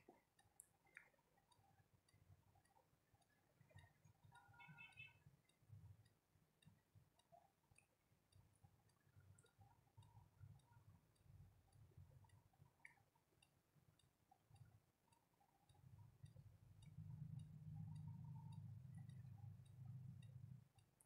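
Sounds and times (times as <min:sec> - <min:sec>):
faint small ticks: 0:00.0 - 0:21.0.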